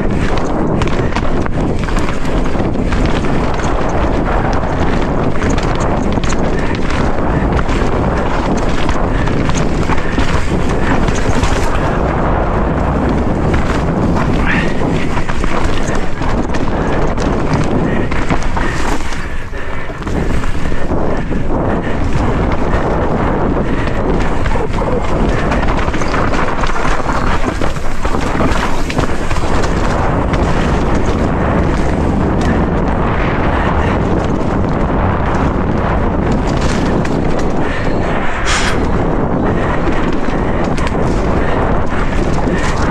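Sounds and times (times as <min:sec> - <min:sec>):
bike clattering: 0:00.0 - 0:42.9
bike tyres rolling over stones: 0:00.0 - 0:42.9
wind rush on microphone: 0:00.0 - 0:42.9.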